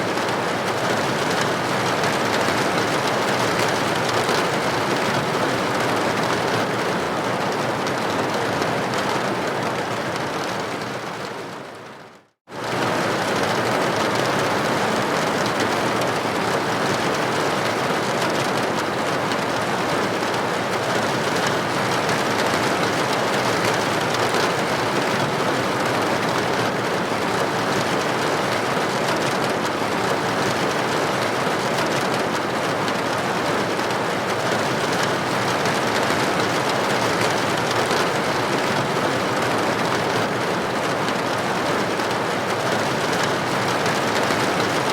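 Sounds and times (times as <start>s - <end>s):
rain striking a window: 0.0s - 44.9s.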